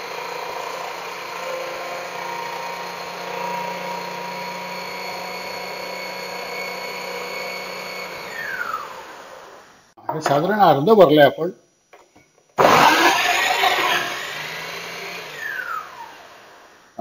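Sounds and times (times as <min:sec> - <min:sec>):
juicer motor whining: 0:00.0 - 0:09.6, 0:12.6 - 0:16.8.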